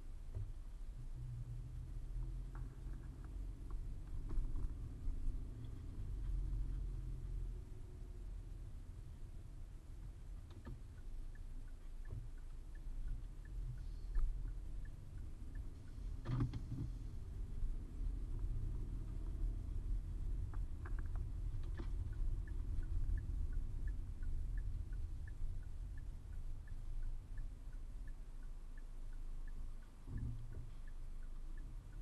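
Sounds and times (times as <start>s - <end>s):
muffled car rumble: 0.0s - 32.0s
faint regular ticking: 1.7s - 32.0s.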